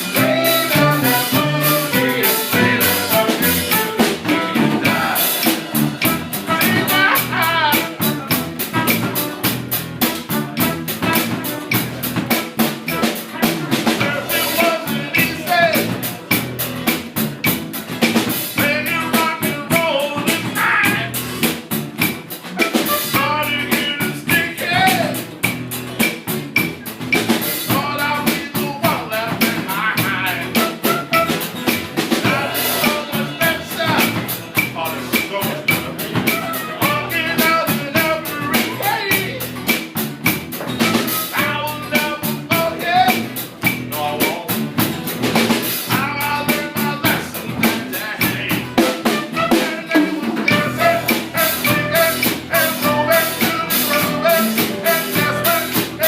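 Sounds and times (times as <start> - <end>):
drum kit beat: 0.0 - 56.0
live band playing: 0.0 - 56.0.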